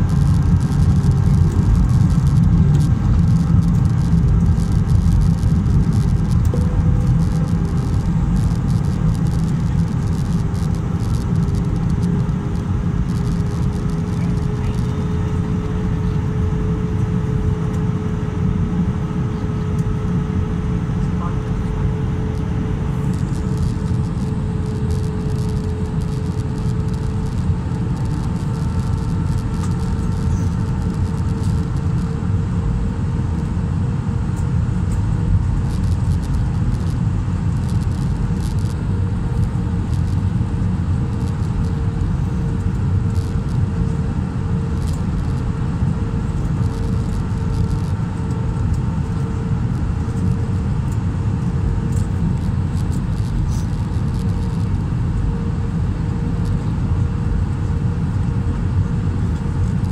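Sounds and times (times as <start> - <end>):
low rumble of engines and airflow: 0.0 - 59.9
steady pulsing hum: 0.0 - 59.9.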